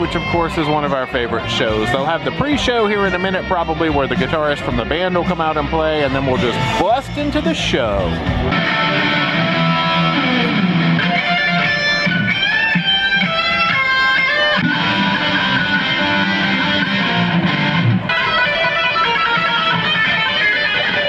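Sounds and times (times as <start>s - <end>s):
electric guitar lead line: 0.0s - 21.0s.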